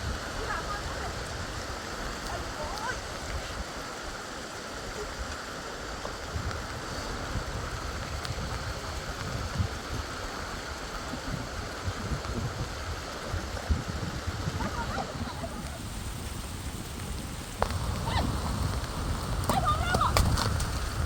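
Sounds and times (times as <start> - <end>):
heavy rain rushing: 0.0 - 21.0
wind buffeting the microphone: 0.0 - 21.0.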